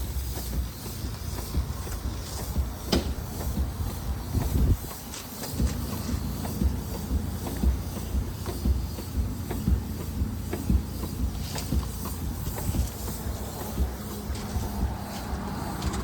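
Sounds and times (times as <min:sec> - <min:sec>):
steam engine hissing and beating: 0:00.0 - 0:16.0.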